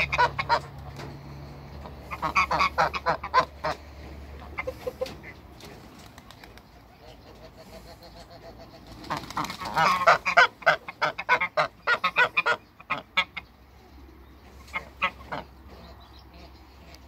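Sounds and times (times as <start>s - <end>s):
geese honking: 0.0s - 5.4s, 6.9s - 13.6s, 14.5s - 17.0s.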